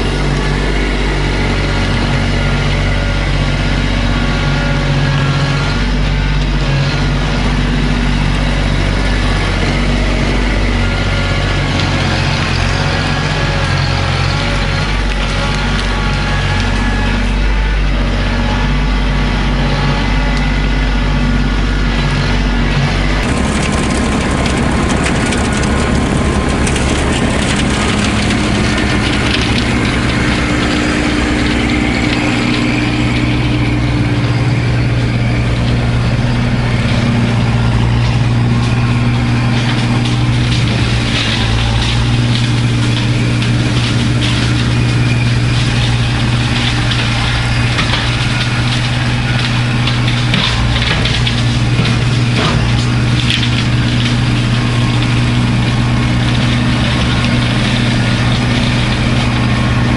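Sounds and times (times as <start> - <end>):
engine running loudly: 0.0 - 59.9.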